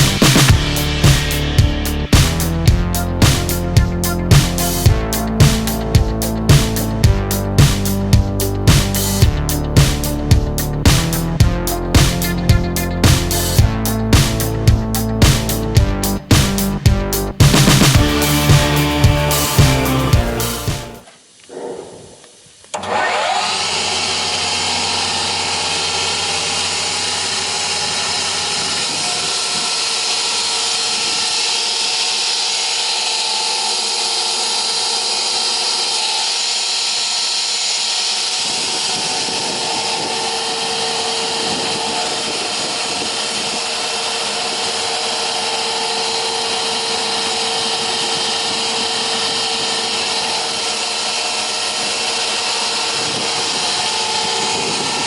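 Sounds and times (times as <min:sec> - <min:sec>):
saw motor running: 0:00.0 - 0:21.1, 0:22.8 - 0:55.0.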